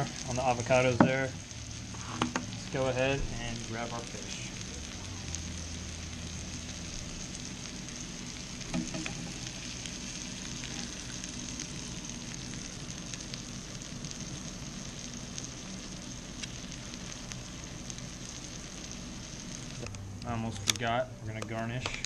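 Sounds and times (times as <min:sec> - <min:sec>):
fish sizzling in oil: 0:00.0 - 0:20.5.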